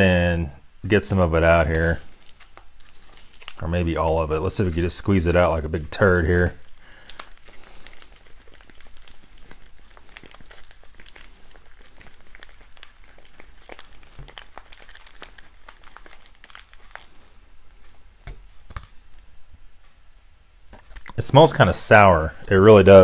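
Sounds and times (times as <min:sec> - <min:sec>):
foil pouch crinkling: 0:01.5 - 0:19.3, 0:20.7 - 0:23.0.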